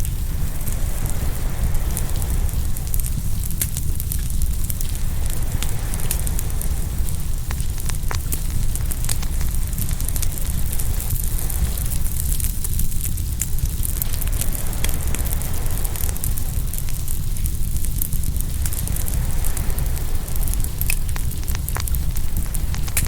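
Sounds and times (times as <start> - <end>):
ocean waves rushing: 0.0 - 12.4, 13.7 - 23.0
wood fire crackling and popping: 0.0 - 23.0.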